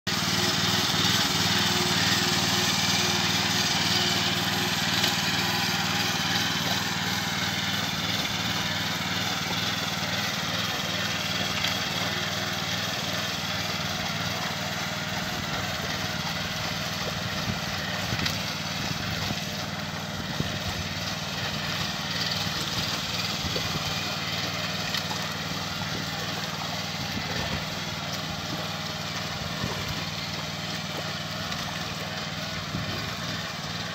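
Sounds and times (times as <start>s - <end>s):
small engine running: 0.1s - 33.9s.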